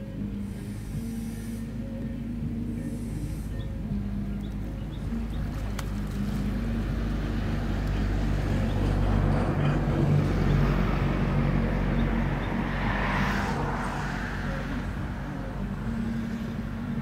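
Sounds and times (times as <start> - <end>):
vehicle engine hum with rushing: 0.0 - 17.0.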